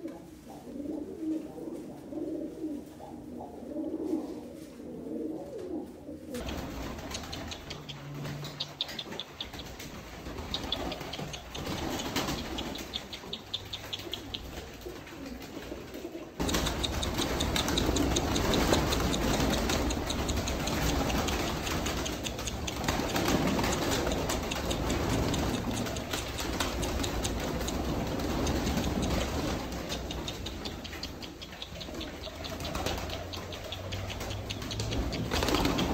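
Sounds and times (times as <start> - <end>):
pigeons pecking: 0.0 - 35.9
pigeon wings flapping: 6.4 - 35.9.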